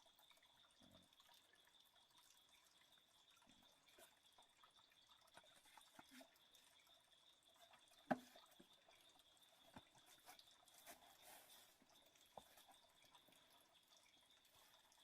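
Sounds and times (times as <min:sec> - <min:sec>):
faint water drips: 0:00.0 - 0:15.0.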